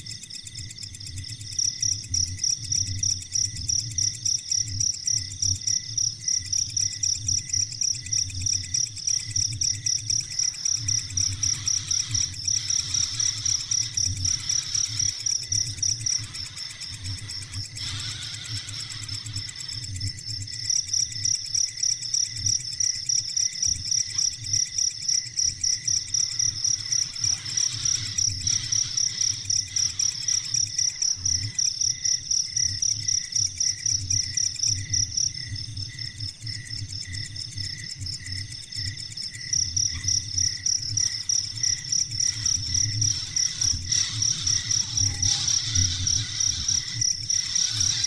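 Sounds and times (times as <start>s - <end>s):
insect-like pulsing chirp: 0.0s - 48.0s.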